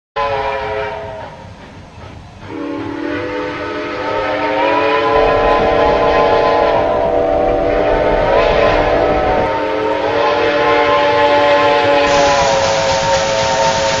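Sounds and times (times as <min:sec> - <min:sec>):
steam whistle blowing: 0:00.2 - 0:01.4, 0:02.5 - 0:14.0.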